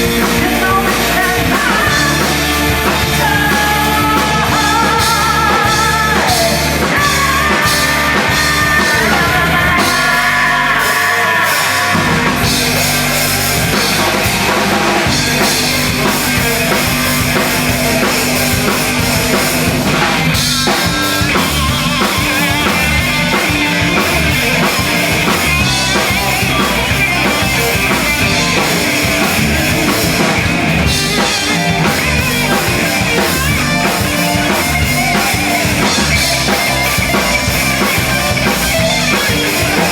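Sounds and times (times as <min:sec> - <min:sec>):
live band playing screamo: 0:00.0 - 0:39.9.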